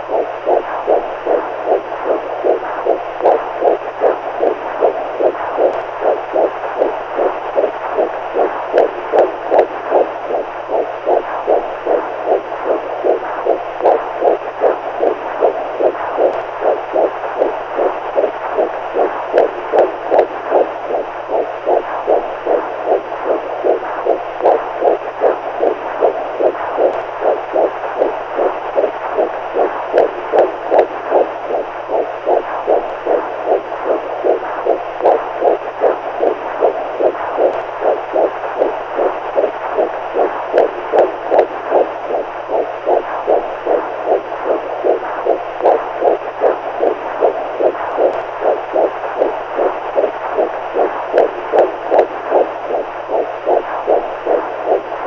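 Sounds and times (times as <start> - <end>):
faint low hum: 0.0 - 55.0
muffled heartbeat pulses: 0.0 - 55.0.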